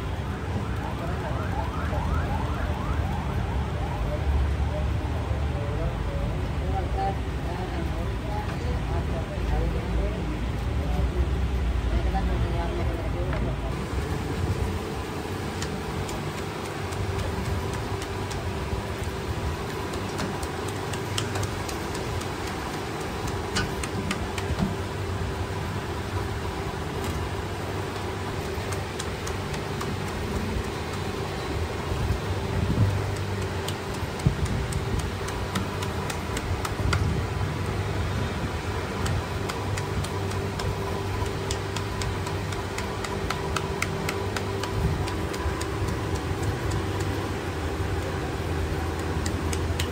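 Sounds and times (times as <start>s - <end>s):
steady mechanical hum: 0.0s - 49.9s.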